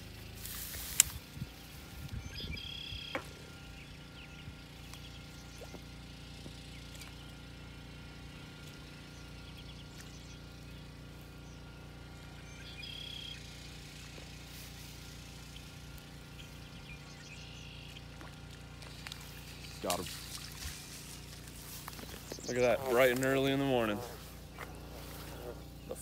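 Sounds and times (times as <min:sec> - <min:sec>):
faint engine-like low hum: 0:00.0 - 0:26.0.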